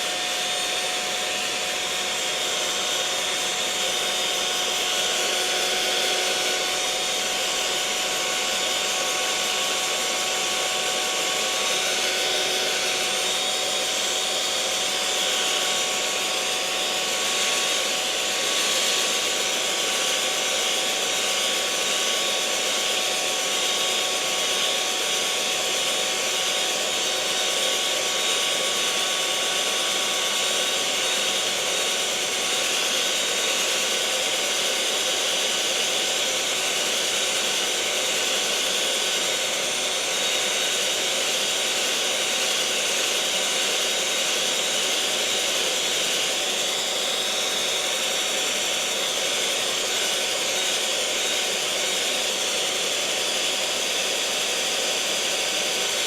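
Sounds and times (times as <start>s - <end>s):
electric kitchen mixer whirring: 0.0s - 56.0s.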